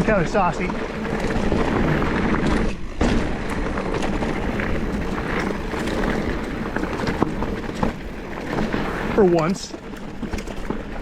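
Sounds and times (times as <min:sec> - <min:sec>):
bike rattles and knocks: 0:00.0 - 0:11.0
bike tyre noise on dirt: 0:00.0 - 0:11.0.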